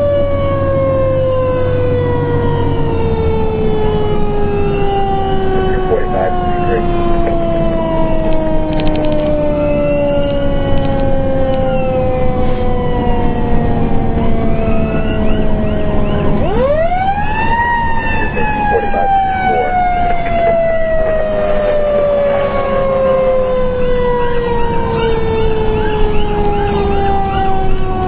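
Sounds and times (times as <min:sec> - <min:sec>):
engine and road rumble: 0:00.0 - 0:28.0
fire engine siren wailing: 0:00.0 - 0:28.0.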